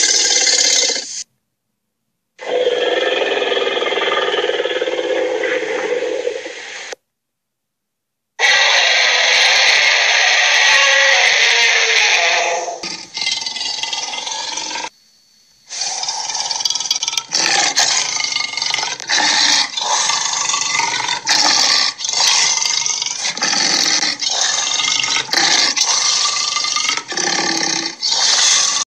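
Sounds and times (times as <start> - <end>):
monster growling roars: 2.4 - 6.4, 8.4 - 14.9, 15.8 - 28.8.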